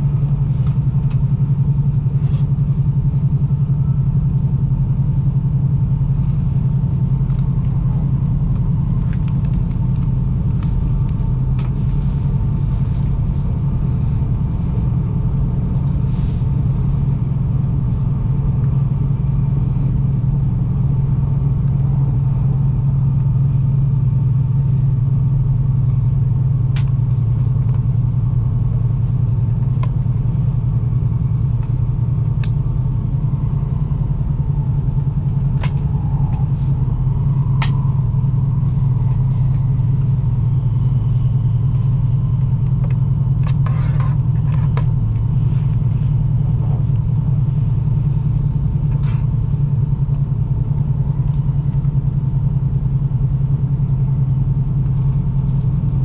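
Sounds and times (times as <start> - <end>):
train cabin low rumble: 0.0 - 56.0.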